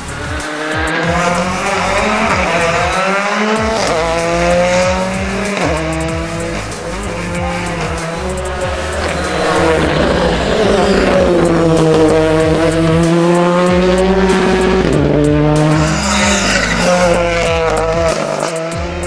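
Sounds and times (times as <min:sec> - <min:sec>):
rally car engine accelerating: 0:00.0 - 0:19.0.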